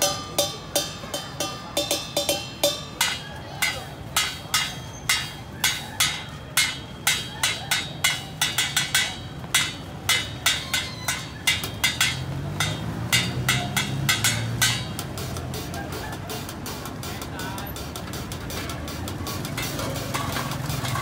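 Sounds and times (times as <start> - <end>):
drumming on metal pots and buckets: 0.0 - 21.0.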